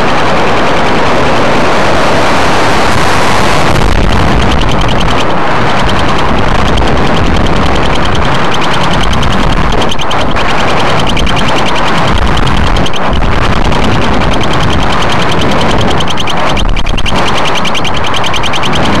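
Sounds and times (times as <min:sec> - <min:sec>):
wind rushing over microphone: 0:00.0 - 0:19.0
fast even rattle: 0:03.1 - 0:19.0.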